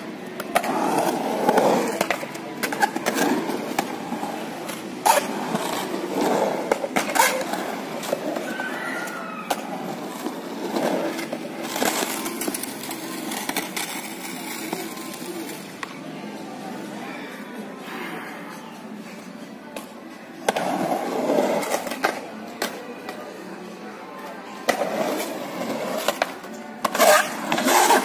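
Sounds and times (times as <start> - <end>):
skateboard wheels rumbling: 0.0 - 16.9, 20.4 - 22.8, 24.6 - 28.0.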